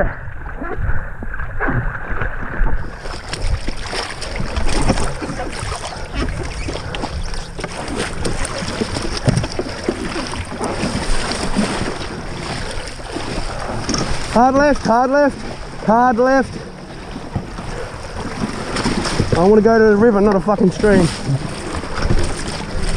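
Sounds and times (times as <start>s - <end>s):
water splashing around boat: 0.0s - 22.9s
wind rumbling on microphone: 0.0s - 22.9s
boat knocking: 1.2s - 22.9s.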